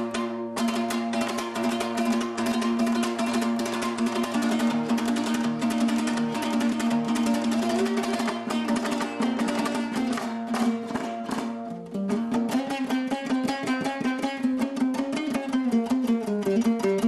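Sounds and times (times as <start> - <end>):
lute strummed fast: 0.0 - 17.0.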